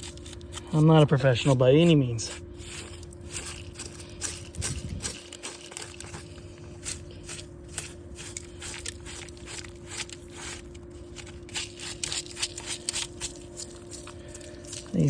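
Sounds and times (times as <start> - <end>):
crunching and scraping in wheat: 0.0 - 15.0
steady low hum: 0.0 - 15.0.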